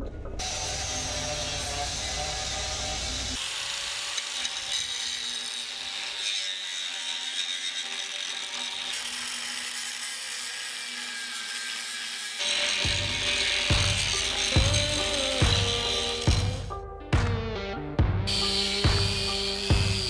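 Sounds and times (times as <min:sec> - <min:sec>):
angle grinder grinding steel: 0:00.4 - 0:16.8, 0:18.3 - 0:20.0.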